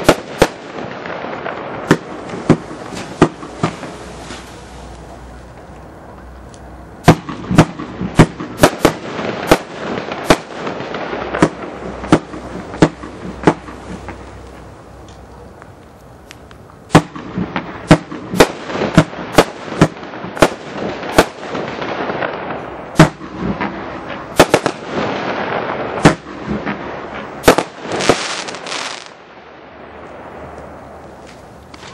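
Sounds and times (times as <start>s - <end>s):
firework crackling hiss: 0.0s - 29.4s, 30.0s - 31.9s
firework bangs: 0.0s - 31.9s.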